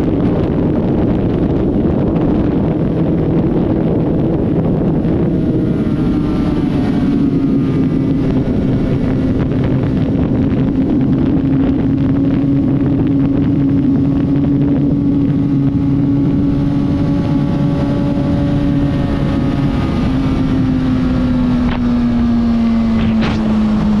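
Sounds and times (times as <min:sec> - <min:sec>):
motorcycle engine running: 0:00.0 - 0:24.0
wind noise on microphone: 0:00.0 - 0:24.0.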